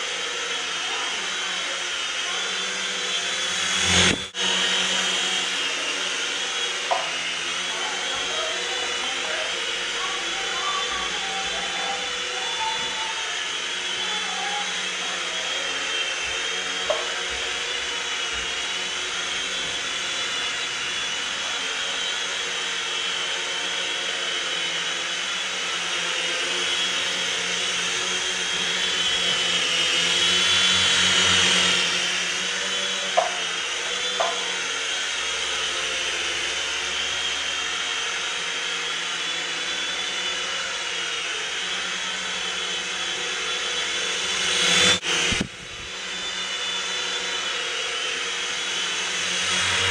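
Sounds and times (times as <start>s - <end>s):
toy helicopter rotors whirring: 0.0s - 49.9s.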